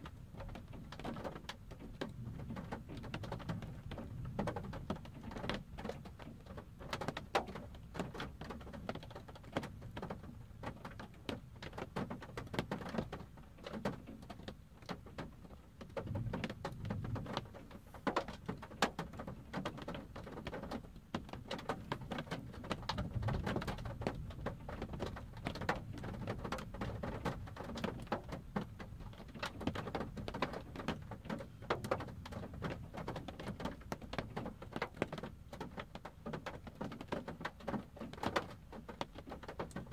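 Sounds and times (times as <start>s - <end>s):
rain pattering on a car roof: 0.0s - 39.9s.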